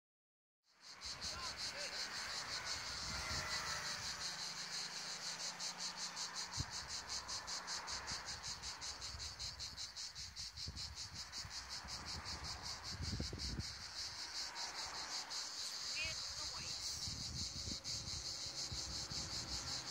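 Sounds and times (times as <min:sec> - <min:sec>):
cicadas buzzing: 0:00.7 - 0:19.9.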